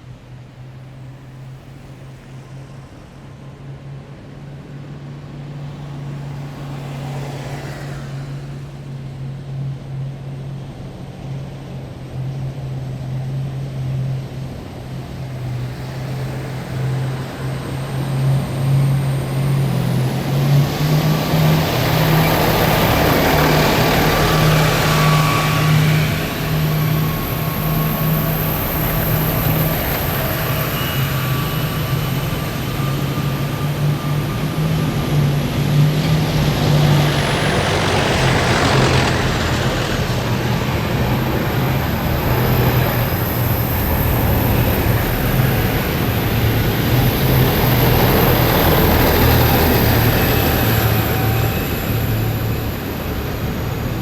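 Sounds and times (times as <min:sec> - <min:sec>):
heavy vehicle engine drone: 0:00.0 - 0:54.0.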